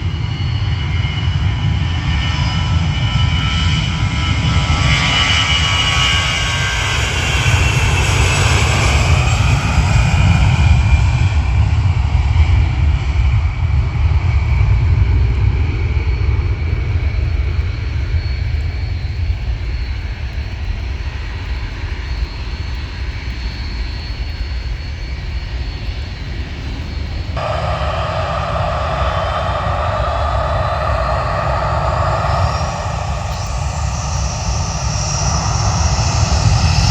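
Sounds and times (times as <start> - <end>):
jet airliner taking off: 0.0 - 36.9.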